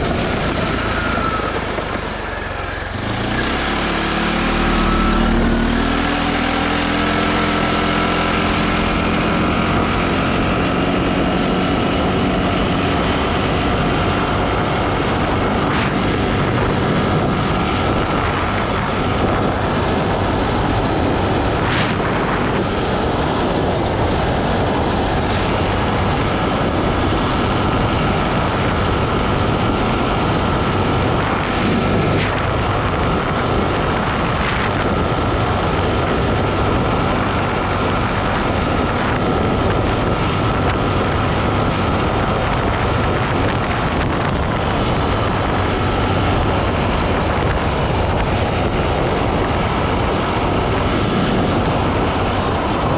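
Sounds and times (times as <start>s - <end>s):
atv engine drone: 0.0s - 52.9s
wind: 0.0s - 52.9s.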